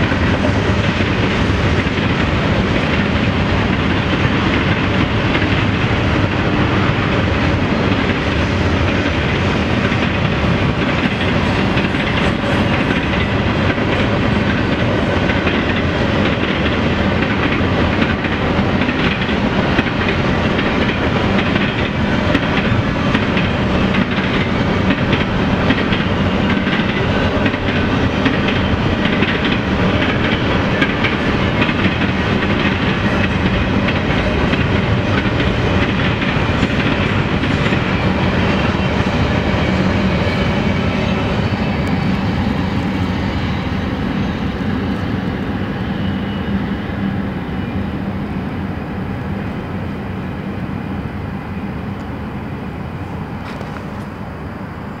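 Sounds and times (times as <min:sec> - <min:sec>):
freight train crossing steel bridge: 0:00.0 - 0:55.0.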